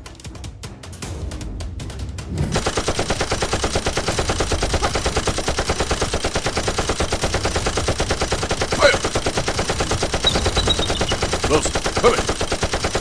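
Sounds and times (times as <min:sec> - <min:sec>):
automatic machine-gun fire: 0:02.6 - 0:13.0.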